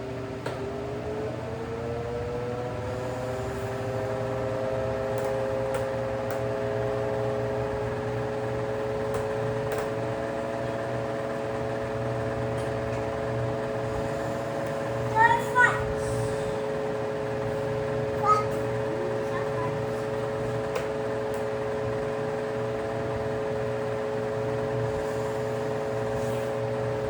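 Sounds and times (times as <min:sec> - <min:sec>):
desk fan motor whine: 0:00.0 - 0:27.0.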